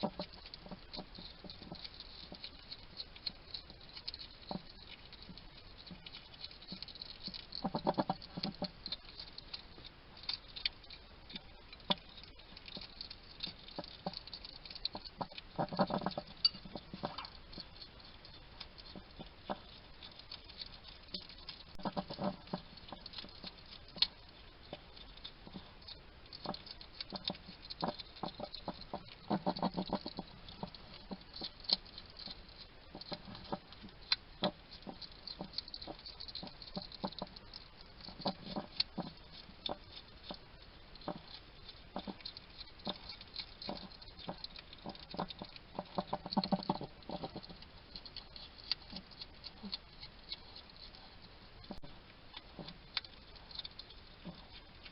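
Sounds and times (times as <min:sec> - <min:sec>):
hedgehog chewing crunchily: 0:00.0 - 0:54.9.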